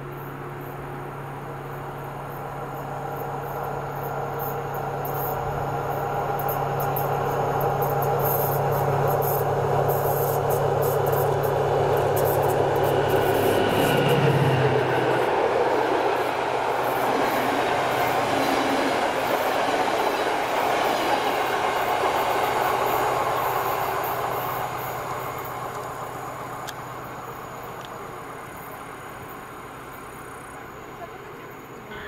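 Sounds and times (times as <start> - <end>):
diesel locomotive engine drone: 0.0 - 32.0.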